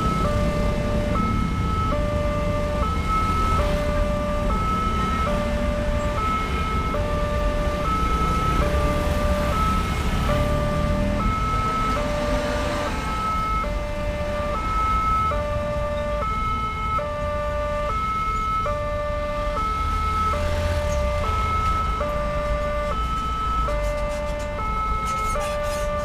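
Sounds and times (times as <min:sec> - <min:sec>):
two-tone crossing alarm: 0:00.0 - 0:26.0
vehicles driving past: 0:00.0 - 0:26.0.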